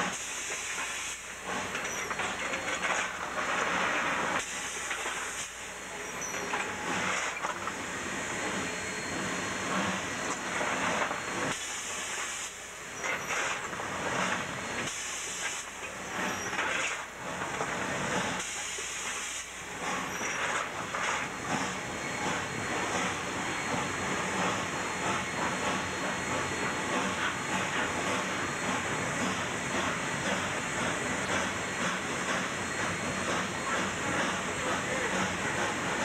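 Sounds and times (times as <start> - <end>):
steam hissing: 0.0 - 36.0
steam locomotive engine running: 0.0 - 36.0.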